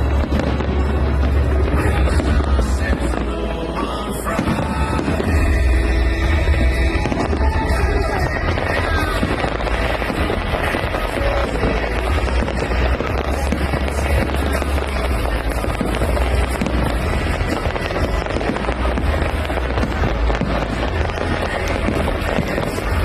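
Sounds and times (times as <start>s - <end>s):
fireworks bursts and bangs: 0.0s - 23.0s.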